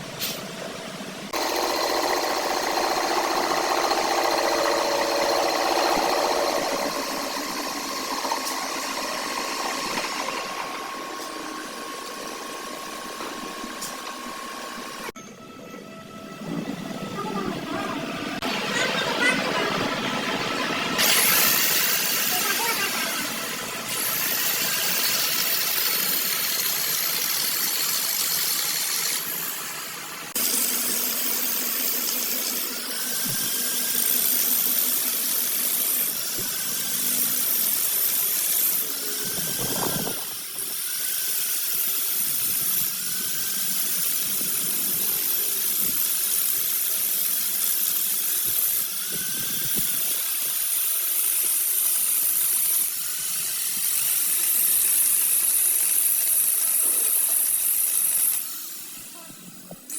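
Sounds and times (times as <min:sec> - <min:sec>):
workshop machinery hissing: 0:00.0 - 0:59.9.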